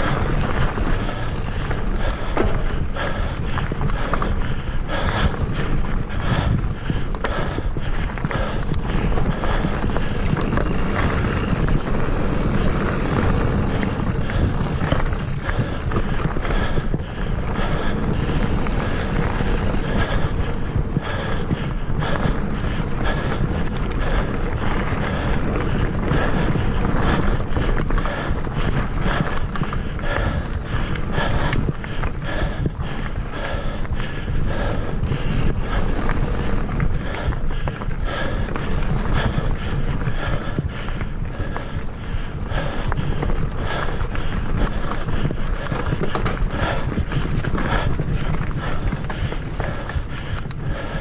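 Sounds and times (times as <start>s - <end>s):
bike rattling over bumps: 0.0s - 51.0s
bike tyre rumble on dirt: 0.0s - 51.0s
wind buffeting microphone: 0.0s - 51.0s.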